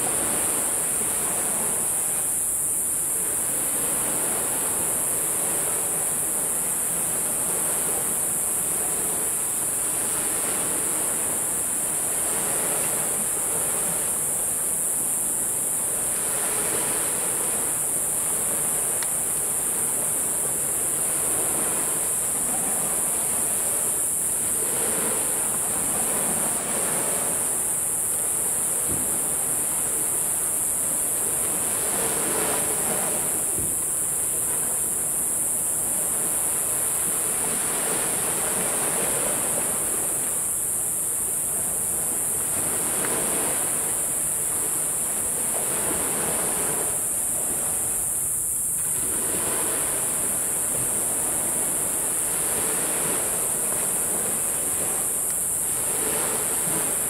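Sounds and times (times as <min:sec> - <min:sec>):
high-pitched hiss: 0:00.0 - 0:57.0
sea waves breaking on beach: 0:00.0 - 0:57.0.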